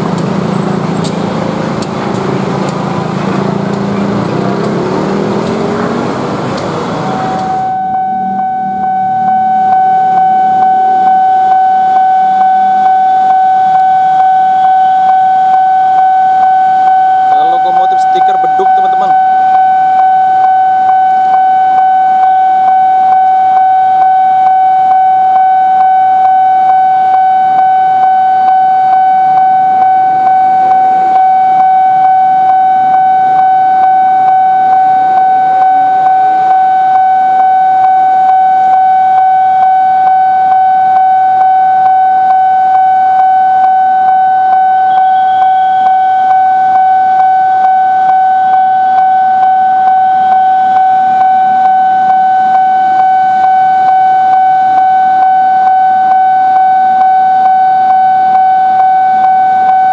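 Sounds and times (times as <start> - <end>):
pulsing level-crossing alarm: 0.0 - 59.9.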